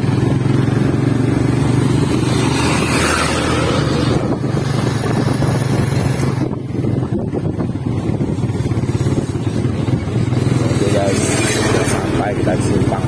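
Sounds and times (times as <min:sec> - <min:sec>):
motorcycle engine running: 0:00.0 - 0:13.0
rushing wind noise: 0:00.0 - 0:13.0.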